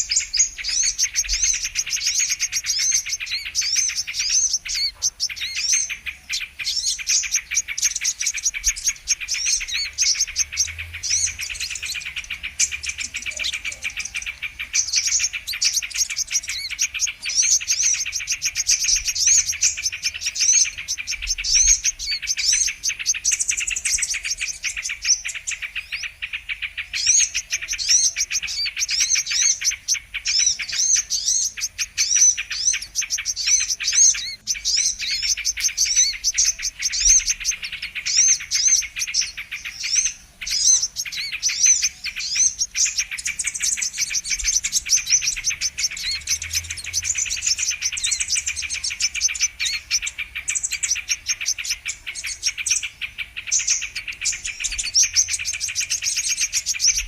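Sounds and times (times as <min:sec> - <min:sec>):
bird chirping and twittering: 0:00.0 - 0:57.0.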